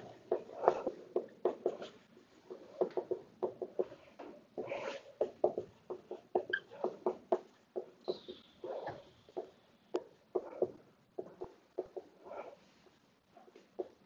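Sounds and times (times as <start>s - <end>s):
marker writing on a whiteboard: 0.0s - 14.0s.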